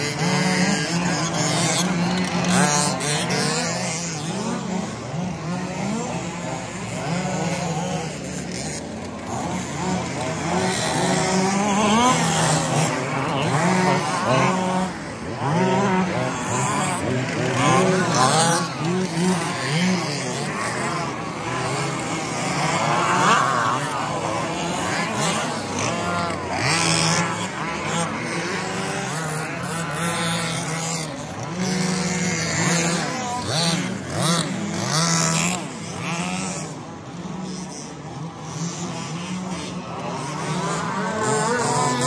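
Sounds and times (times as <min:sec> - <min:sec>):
small two-stroke engines revving: 0:00.0 - 0:42.0.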